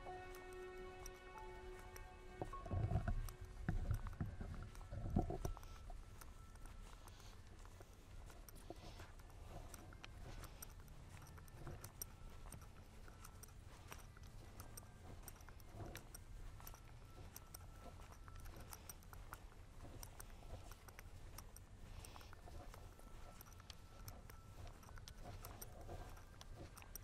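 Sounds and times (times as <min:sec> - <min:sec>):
footsteps on cobblestones: 0:00.0 - 0:27.0.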